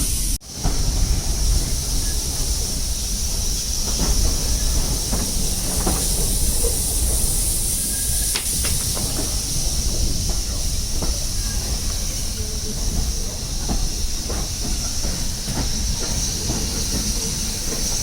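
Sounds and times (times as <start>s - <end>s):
steam train hissing: 0.0s - 18.0s.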